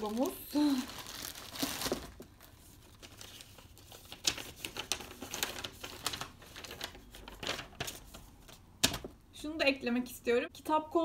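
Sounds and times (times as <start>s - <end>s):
paper and packaging crinkling: 0.0s - 9.1s.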